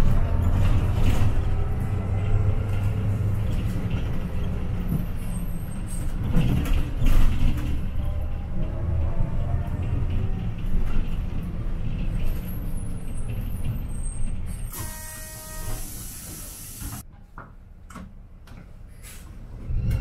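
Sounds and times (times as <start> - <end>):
bus engine humming: 0.0 - 19.9.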